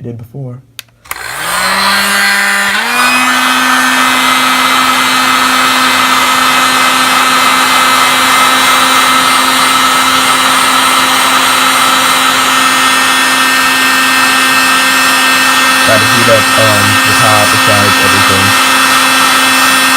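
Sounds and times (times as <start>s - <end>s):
heat gun running: 1.0s - 19.9s.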